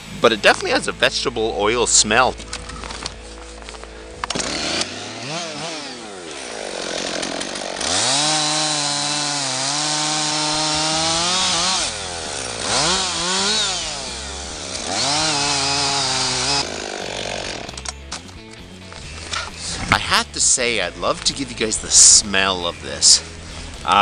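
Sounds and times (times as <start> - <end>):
chainsaw revving and cutting log: 2.5 - 24.0.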